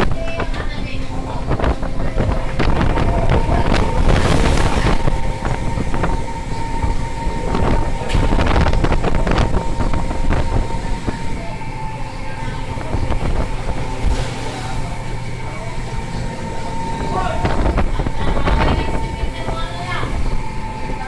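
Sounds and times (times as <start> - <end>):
high machine whine: 0.0 - 21.0
machinery low drone: 0.0 - 21.0.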